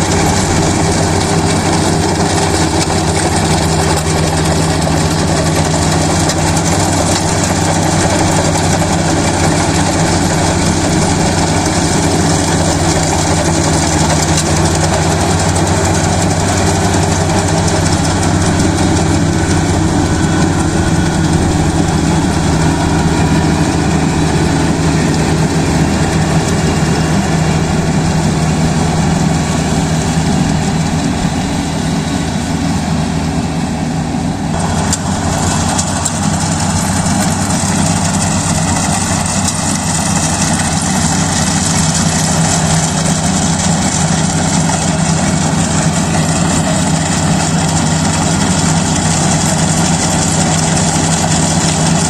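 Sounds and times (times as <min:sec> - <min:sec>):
combine harvester engine drone: 0:00.0 - 0:52.0.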